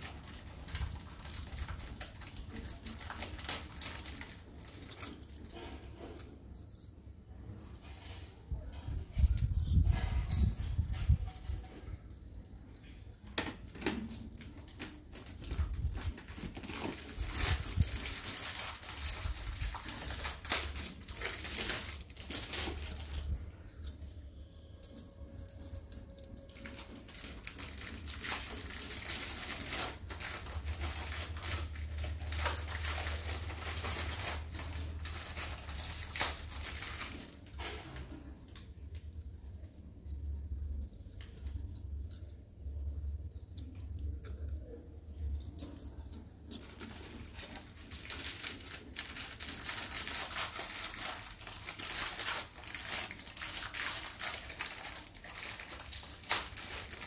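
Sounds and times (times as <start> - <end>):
glass bangles clinking: 0.0 - 57.0.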